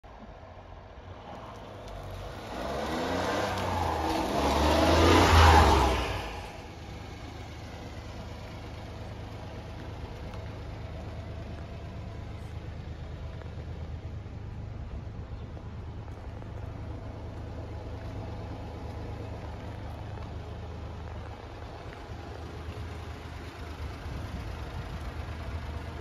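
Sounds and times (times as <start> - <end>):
vehicle engine accelerating: 1.0 - 26.0.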